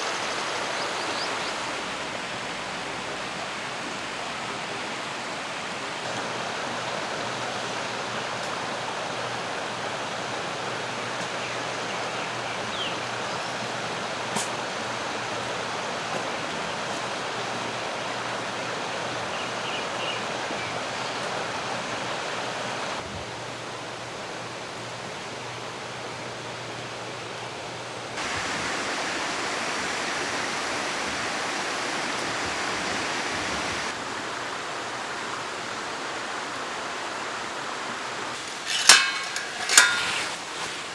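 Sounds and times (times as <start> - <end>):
stream water rushing over rocks: 0.0 - 23.0, 28.2 - 40.9.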